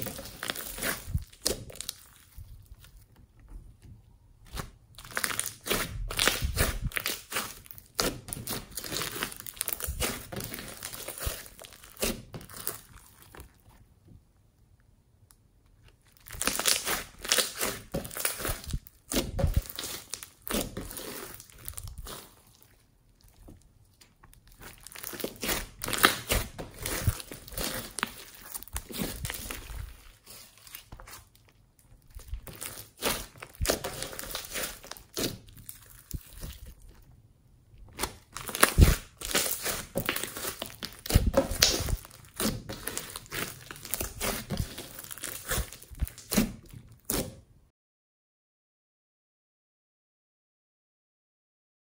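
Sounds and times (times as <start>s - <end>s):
slime crackling and popping: 0.0s - 3.0s, 4.4s - 13.7s, 15.9s - 37.2s, 37.8s - 47.4s.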